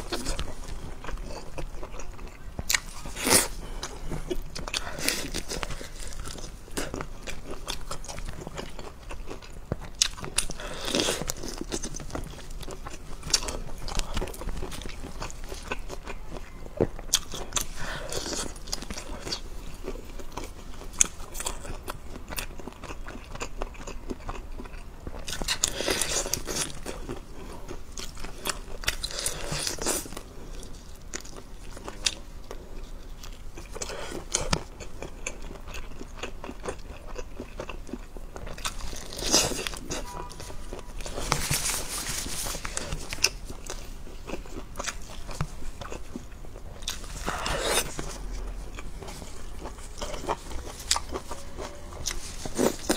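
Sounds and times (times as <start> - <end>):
person chewing and crunching food: 0.0 - 52.9.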